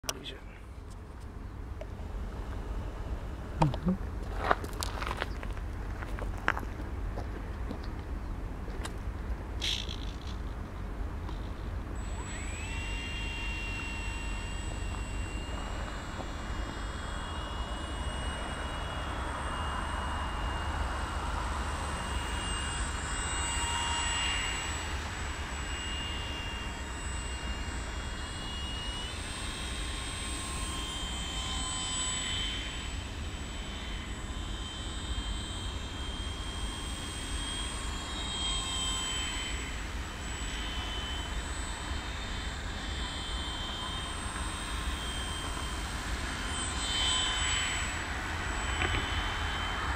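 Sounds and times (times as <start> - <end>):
model airplane motor whining: 9.6 - 49.9.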